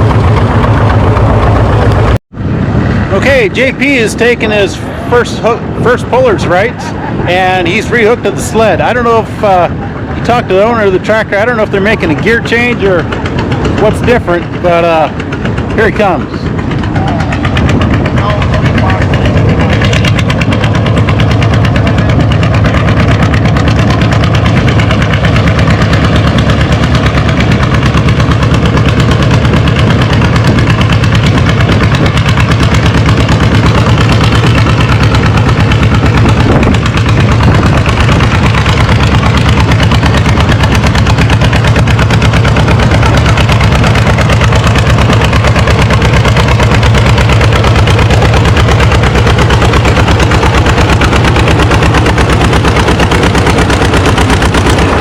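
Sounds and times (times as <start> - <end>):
tractor engine pulling under load: 0.0 - 55.0.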